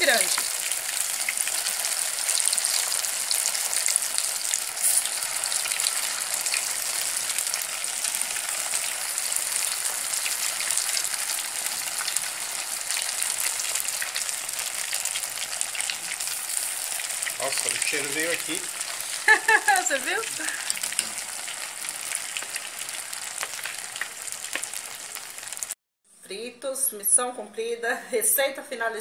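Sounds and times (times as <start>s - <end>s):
deep-frying sizzle and crackles: 0.0s - 25.8s.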